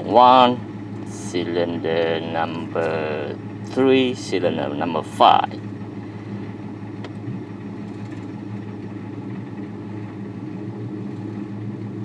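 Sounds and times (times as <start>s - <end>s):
car engine idling with misfires: 0.0s - 12.0s.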